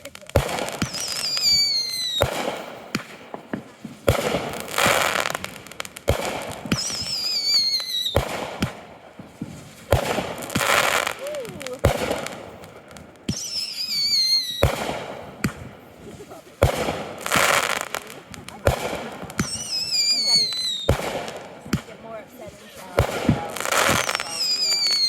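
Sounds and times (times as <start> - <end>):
whistling firework shells: 0.0 - 8.8, 9.5 - 25.0
firework bangs: 0.0 - 25.0
firework crackle: 0.0 - 25.0.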